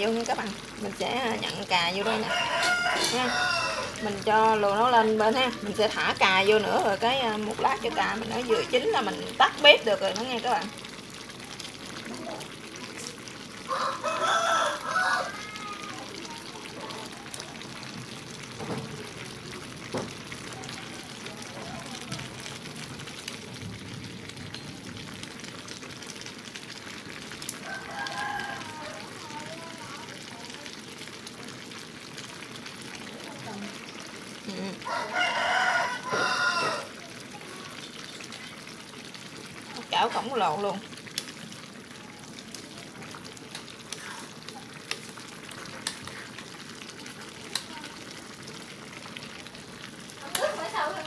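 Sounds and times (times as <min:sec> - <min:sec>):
sauce simmering and bubbling: 0:00.0 - 0:51.0.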